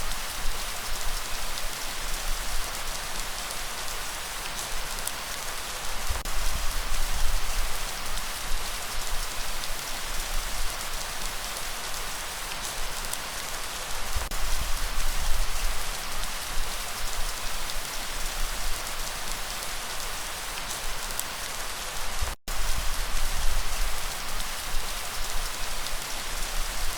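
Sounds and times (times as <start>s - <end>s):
heavy rain hissing: 0.0s - 26.9s.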